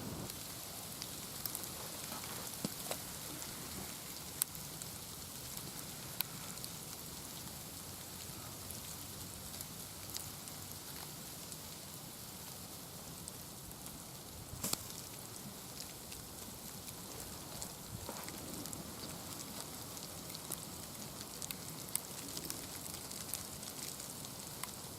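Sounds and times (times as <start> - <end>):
rain patter: 0.0 - 24.9.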